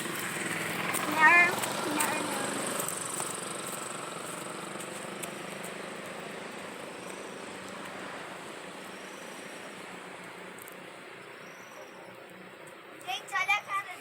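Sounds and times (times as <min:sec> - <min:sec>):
distant engine running: 0:00.0 - 0:13.6.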